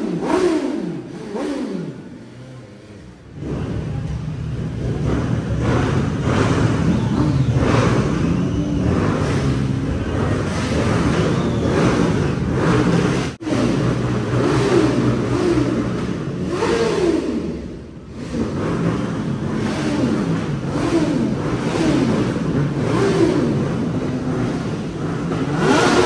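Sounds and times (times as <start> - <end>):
engine revving hard: 0.0 - 26.0.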